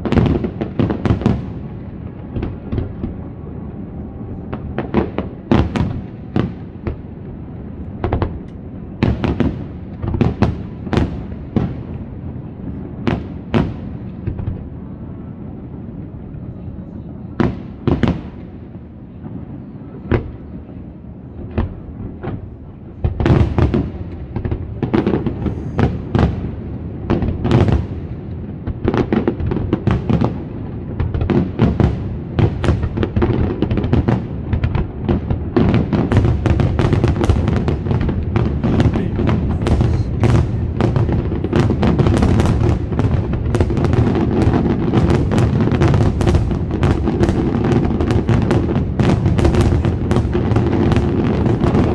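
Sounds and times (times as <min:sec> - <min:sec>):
firework bangs: 0:00.0 - 0:14.8, 0:17.4 - 0:51.9
fireworks barrage and crackle: 0:00.0 - 0:51.9.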